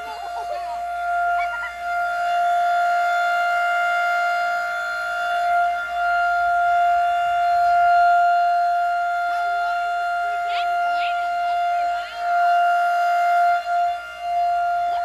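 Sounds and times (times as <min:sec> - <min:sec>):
electromechanical siren steady tone: 0:00.0 - 0:15.0.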